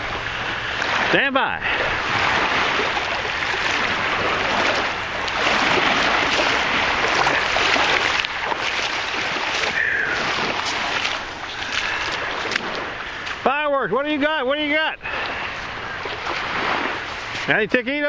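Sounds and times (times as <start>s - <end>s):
water sloshing around wading person: 0.0s - 17.8s.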